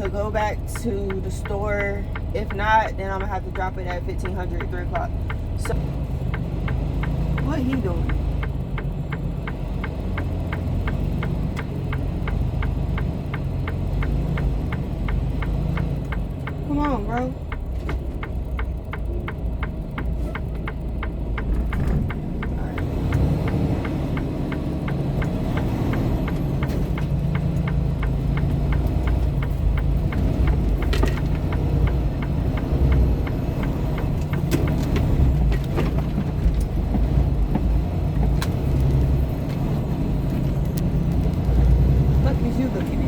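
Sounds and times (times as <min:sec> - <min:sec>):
fast regular ticking: 0:00.0 - 0:43.0
truck engine running: 0:00.0 - 0:43.0.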